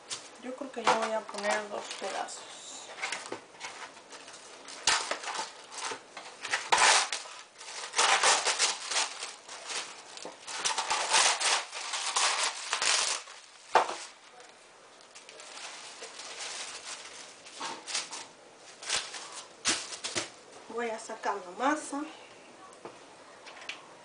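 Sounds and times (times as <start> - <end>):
plastic wrap crinkling: 0.0 - 20.8.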